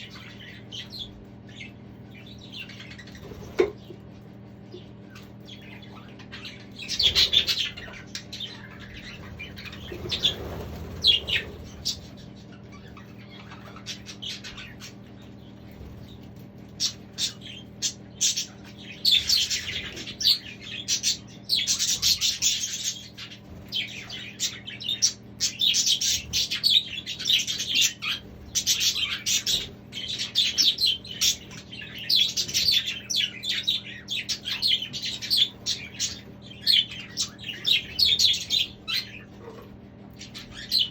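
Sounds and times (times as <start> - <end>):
budgerigars chirping: 0.0 - 4.0, 4.6 - 40.9.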